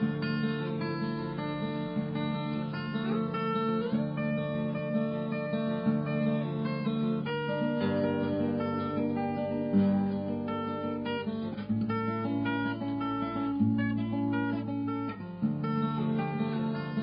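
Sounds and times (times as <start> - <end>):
acoustic guitar strummed chords: 0.0 - 17.0.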